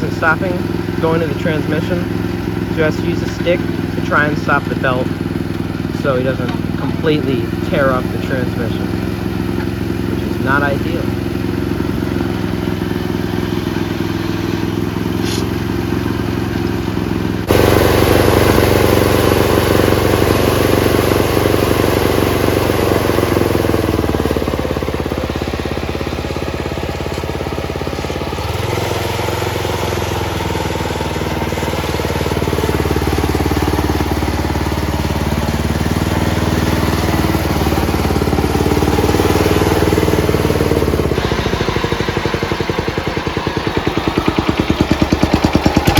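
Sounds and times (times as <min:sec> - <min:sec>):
lawn tractor engine running: 0:00.0 - 0:45.9.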